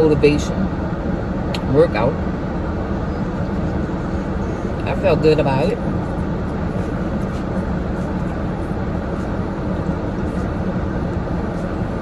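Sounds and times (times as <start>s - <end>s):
vehicle rumble with hiss: 0.0s - 12.0s.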